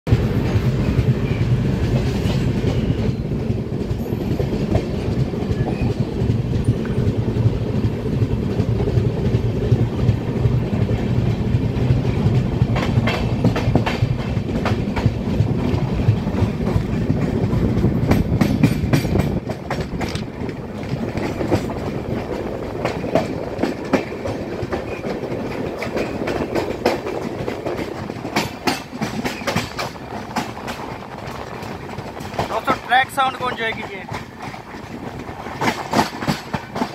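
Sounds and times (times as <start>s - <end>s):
train wheels rumbling: 0.1s - 36.9s
wheels clacking over rail joints: 0.1s - 36.9s.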